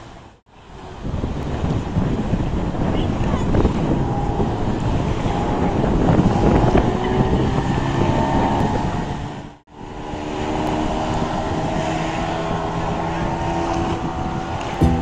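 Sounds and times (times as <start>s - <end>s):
water and wind hiss: 0.0s - 13.4s.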